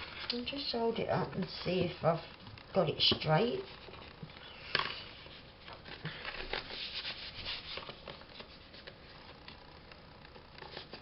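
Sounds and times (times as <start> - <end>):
paper and card rustling: 0.0 - 11.0.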